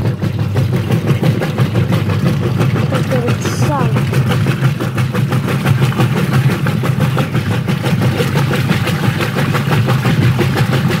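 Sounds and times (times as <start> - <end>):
agitator churning clothes in water: 0.0 - 11.0
washing machine motor hum: 0.0 - 11.0.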